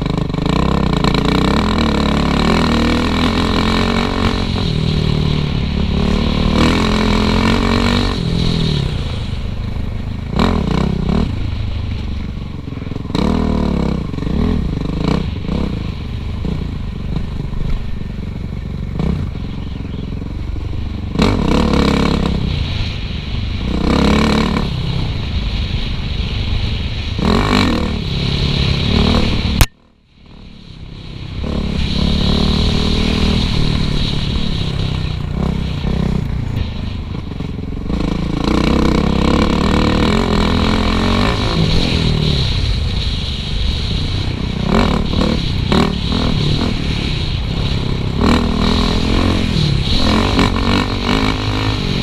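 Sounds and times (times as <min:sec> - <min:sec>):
dirt bike engine revving: 0:00.0 - 0:25.2, 0:27.0 - 0:52.0.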